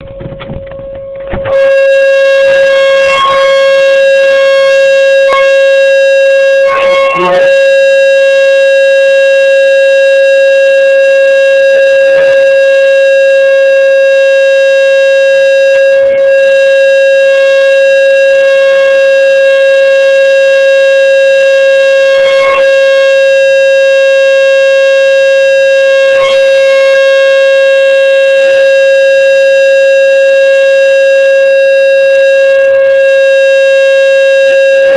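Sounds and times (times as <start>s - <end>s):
tornado siren steady tone: 0.9s - 34.9s.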